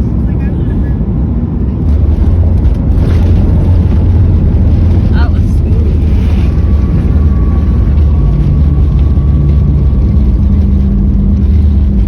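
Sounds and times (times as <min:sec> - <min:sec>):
airplane cabin rumble: 0:00.0 - 0:12.0
low engine hum: 0:00.0 - 0:12.0.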